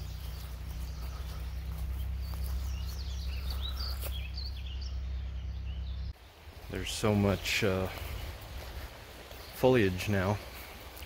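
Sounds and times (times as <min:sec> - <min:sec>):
steady low rumble: 0:00.0 - 0:09.6
small birds chirping: 0:00.0 - 0:11.0.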